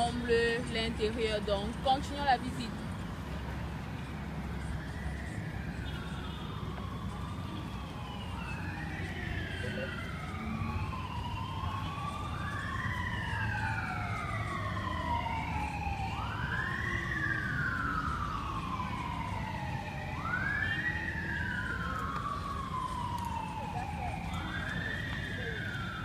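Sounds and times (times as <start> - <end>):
emergency sirens wailing: 0.0 - 26.0.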